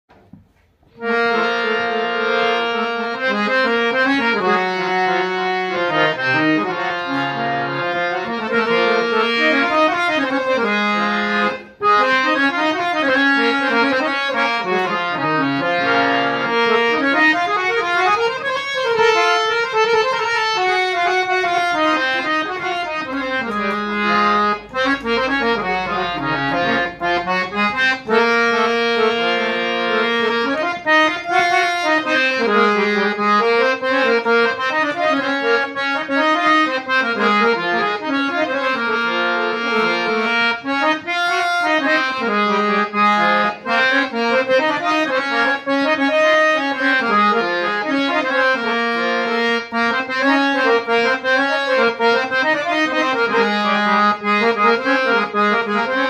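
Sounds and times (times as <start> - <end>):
harmonium melody over chords: 0.1 - 56.0.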